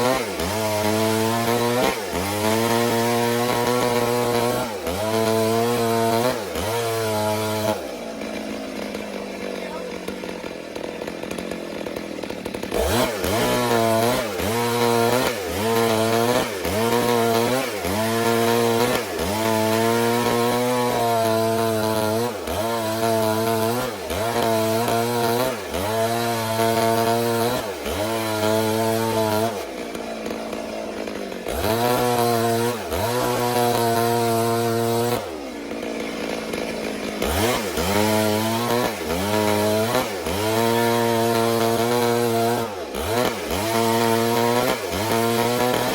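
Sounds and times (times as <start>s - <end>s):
chainsaw cutting through log: 0.0s - 45.9s.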